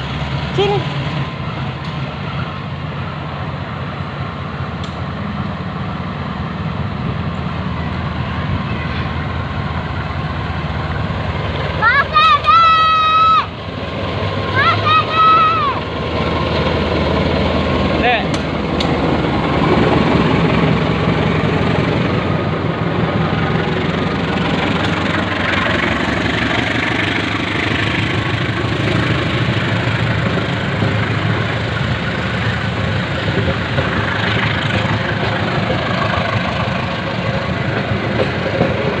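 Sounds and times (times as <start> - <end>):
engine humming: 0.0 - 39.0.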